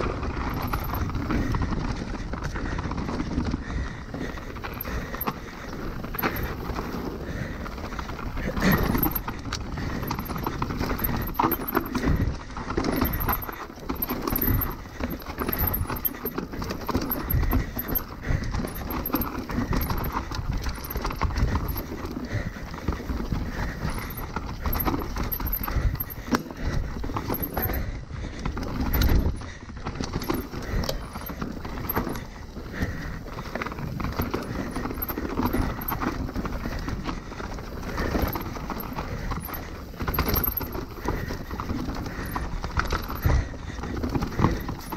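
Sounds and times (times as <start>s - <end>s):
bike knocking and rattling: 0.0s - 44.9s
tyres rushing on loose dirt: 0.0s - 44.9s.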